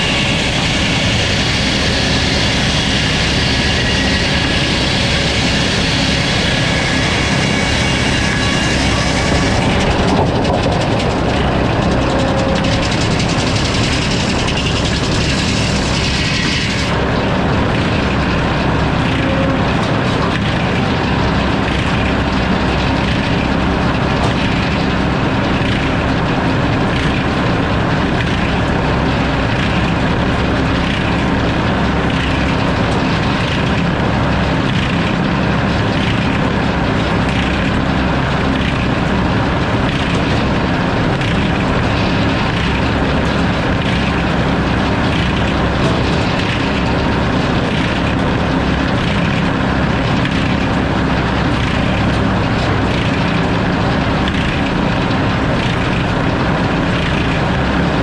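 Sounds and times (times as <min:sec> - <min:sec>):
saw cutting through log: 0:00.0 - 0:58.0
sawmill engine and drive noise: 0:00.0 - 0:58.0.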